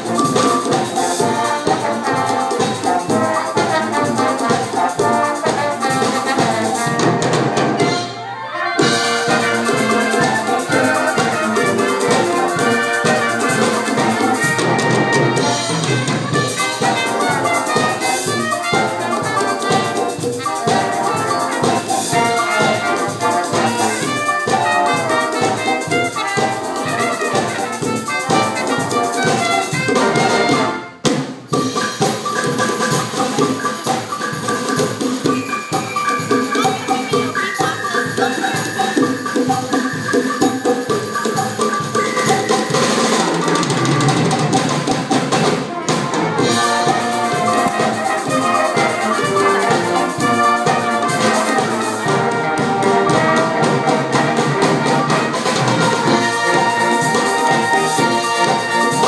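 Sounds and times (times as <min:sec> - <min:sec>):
steady drumbeat: 0:00.0 - 0:59.0
wind band playing samba: 0:00.0 - 0:59.0.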